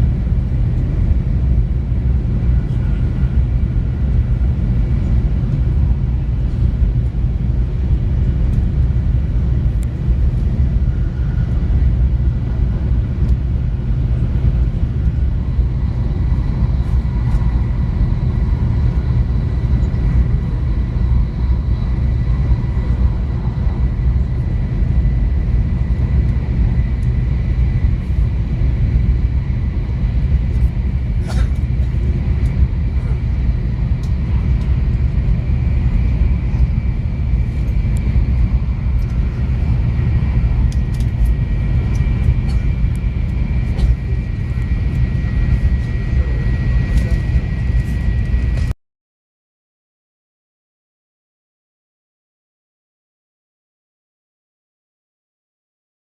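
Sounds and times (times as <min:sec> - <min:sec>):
steady low rumble: 0:00.0 - 0:48.8.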